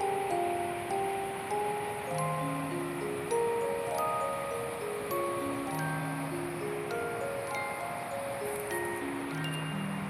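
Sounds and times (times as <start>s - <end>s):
gentle melody of held notes: 0.0s - 10.0s
soft steady hiss: 0.0s - 10.0s.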